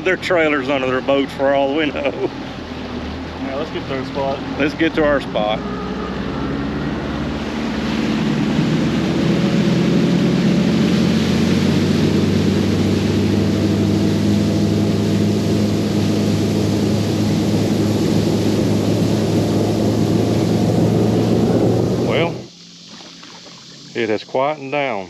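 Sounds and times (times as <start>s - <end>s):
boat motor humming: 0.0s - 25.0s
rush of wind and water: 0.0s - 25.0s.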